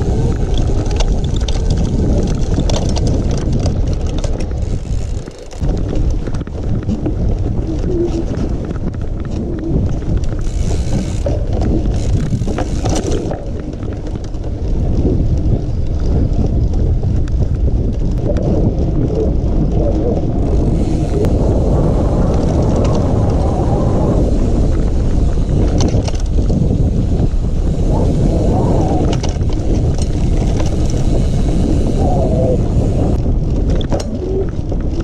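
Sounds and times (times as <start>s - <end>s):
mountain bike riding on trail: 0.0s - 35.0s
wind on microphone: 0.0s - 35.0s.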